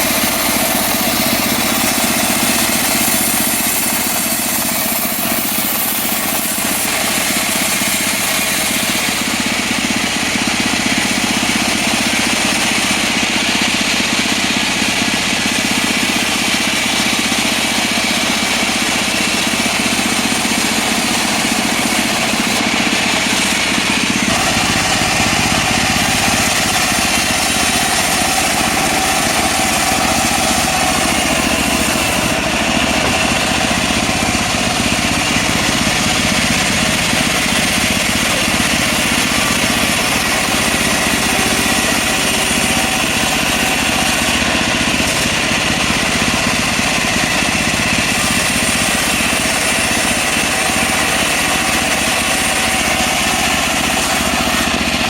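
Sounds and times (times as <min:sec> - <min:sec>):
sawmill engine sawing wood: 0:00.0 - 0:55.0.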